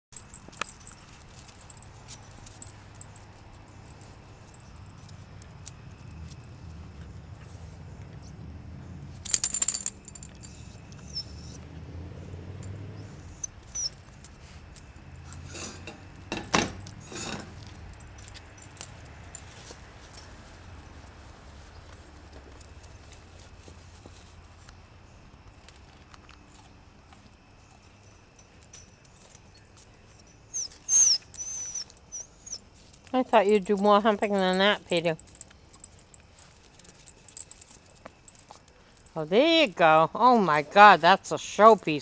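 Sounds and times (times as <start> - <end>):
dog collar tags jingling: 0.1 - 42.0.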